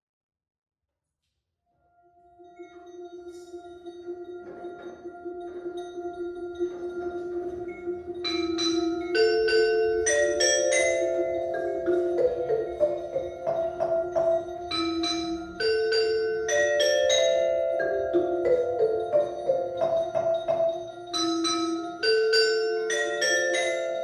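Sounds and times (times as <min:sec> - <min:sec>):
mallet percussion melody: 0:02.5 - 0:24.0.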